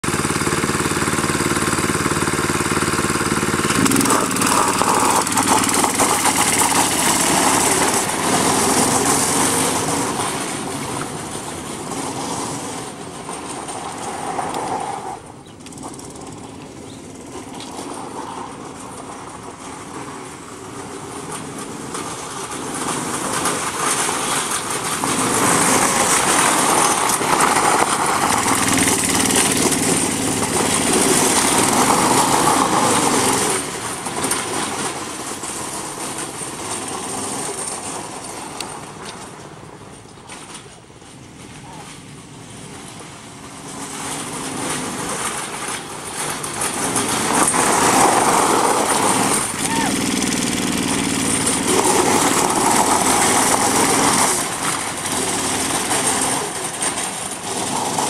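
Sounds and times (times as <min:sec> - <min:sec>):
go-kart engine revving: 0:00.0 - 0:39.0, 0:42.9 - 0:58.0
tyres drifting on gravel: 0:00.0 - 0:58.0.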